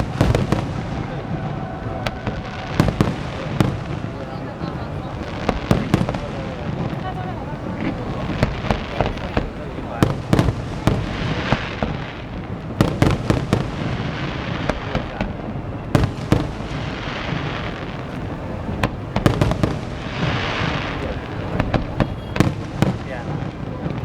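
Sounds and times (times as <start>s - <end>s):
firework shells bursting: 0.0s - 24.0s.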